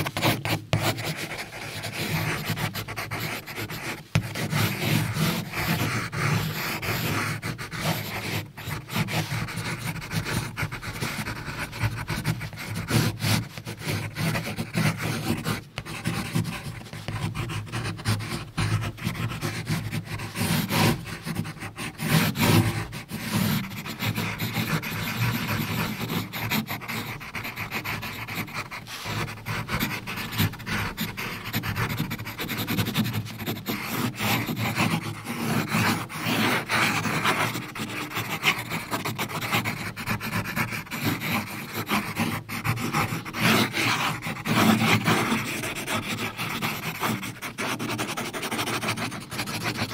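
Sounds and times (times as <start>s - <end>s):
pencil scratching on paper: 0.0s - 49.9s.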